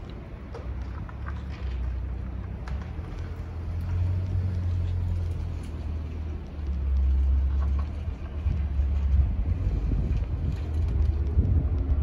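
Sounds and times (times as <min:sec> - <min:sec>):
distant jet rumble: 0:00.0 - 0:12.0.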